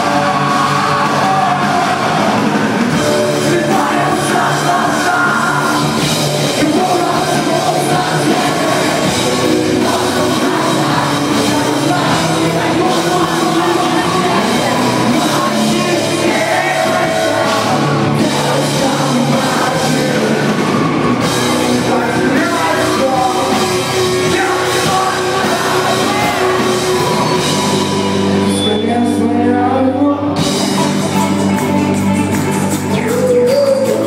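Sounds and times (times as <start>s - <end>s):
heavy rock band playing: 0.0s - 34.0s
person singing: 0.0s - 34.0s.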